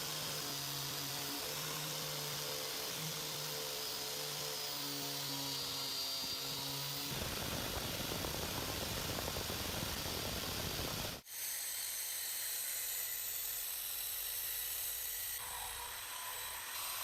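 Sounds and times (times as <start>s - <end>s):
small electric power tool running: 0.0s - 17.0s.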